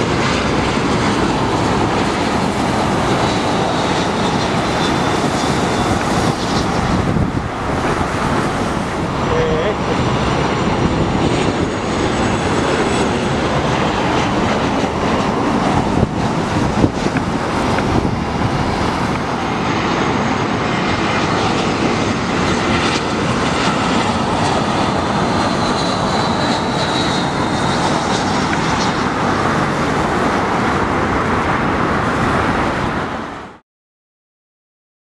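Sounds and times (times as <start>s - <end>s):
jet engines passing low: 0.0s - 33.6s.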